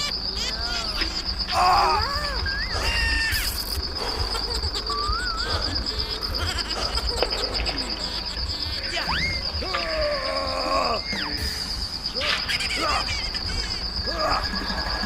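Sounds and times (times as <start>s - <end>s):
whistling chirps: 0.0s - 6.4s, 7.1s - 15.0s
high pulsing insect trill: 0.0s - 15.0s.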